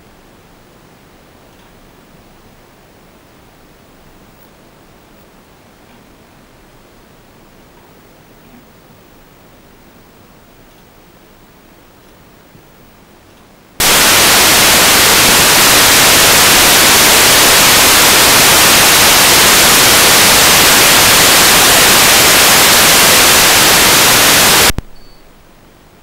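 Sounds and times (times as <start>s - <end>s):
loud static hiss: 0.0s - 26.0s.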